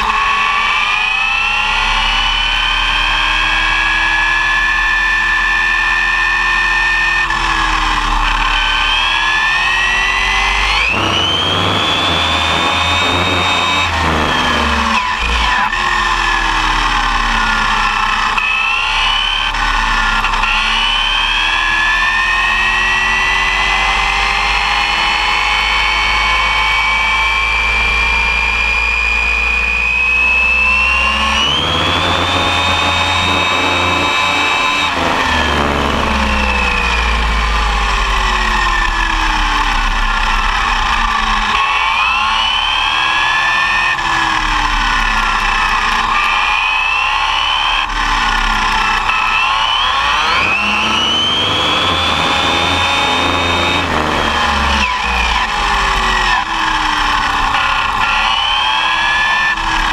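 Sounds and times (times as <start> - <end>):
electric motor and drivetrain whine: 0.0 - 59.9.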